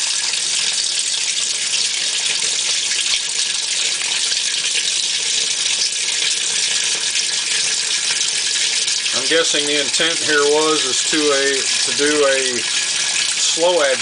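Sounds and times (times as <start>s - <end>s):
washer agitator churning: 0.0s - 14.0s
water rushing into washer tub: 0.0s - 14.0s.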